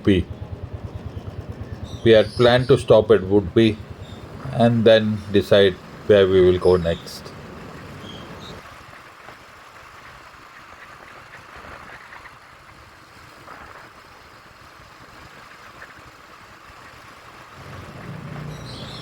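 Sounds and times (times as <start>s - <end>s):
motorcycle engine and road noise: 0.0s - 19.0s.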